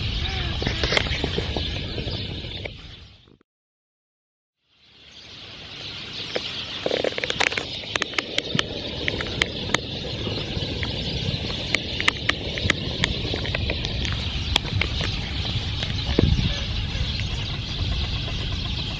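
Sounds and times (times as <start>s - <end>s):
flock of small birds chattering: 0.0s - 3.4s, 4.7s - 18.9s.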